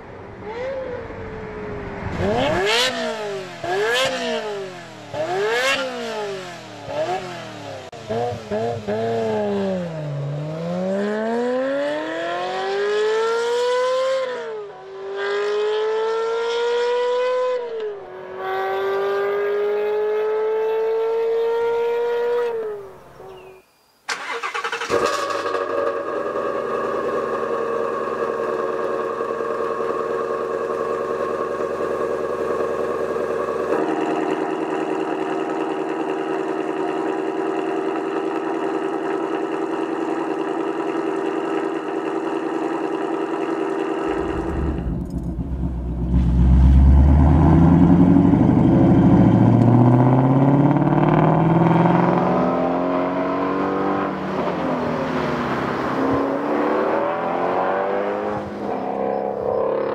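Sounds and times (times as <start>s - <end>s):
car engine idling and revving: 0.0s - 23.2s, 24.1s - 59.9s.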